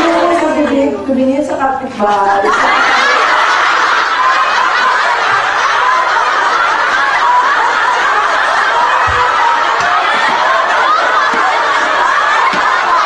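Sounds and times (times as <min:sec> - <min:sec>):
group of women laughing: 0:02.3 - 0:13.0.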